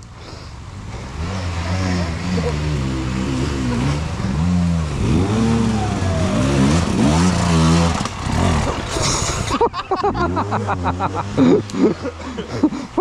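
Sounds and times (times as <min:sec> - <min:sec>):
motorcycle engine revving: 0:00.7 - 0:12.6.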